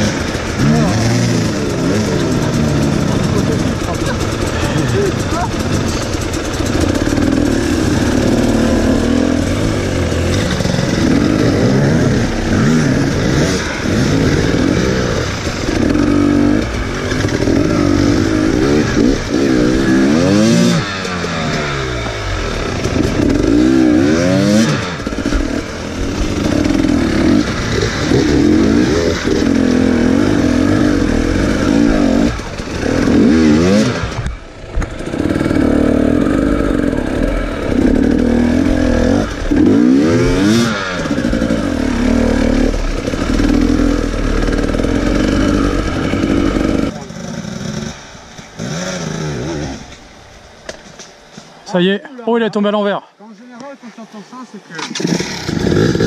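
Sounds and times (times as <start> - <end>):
dirt bike engine revving: 0.0 - 51.5, 54.1 - 56.0.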